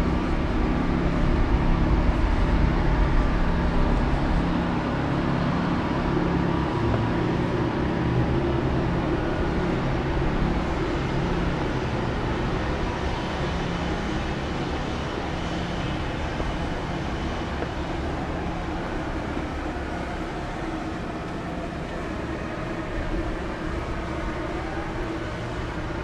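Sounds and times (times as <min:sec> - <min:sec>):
low engine hum: 0:00.0 - 0:26.0
street noise: 0:00.0 - 0:26.0.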